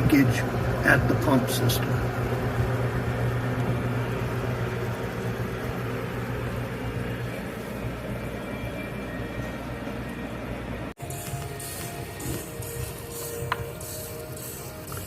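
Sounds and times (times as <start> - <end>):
ice maker humming: 0.0 - 15.0.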